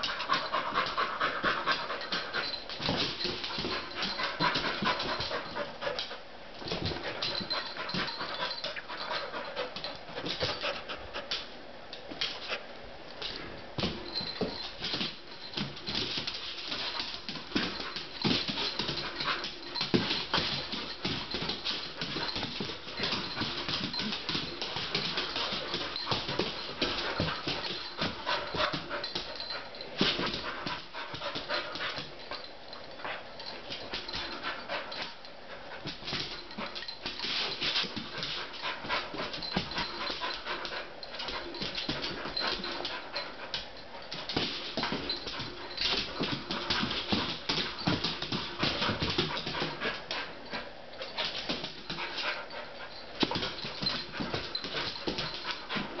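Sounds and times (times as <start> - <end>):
dog panting: 0.0 - 6.3, 6.9 - 11.5, 16.6 - 56.0.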